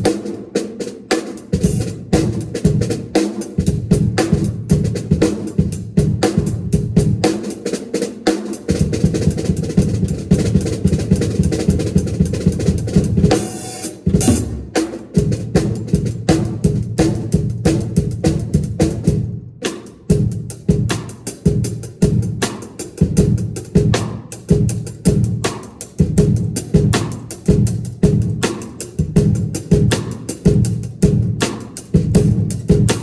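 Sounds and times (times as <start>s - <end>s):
drum kit playing fast: 0.0s - 33.0s.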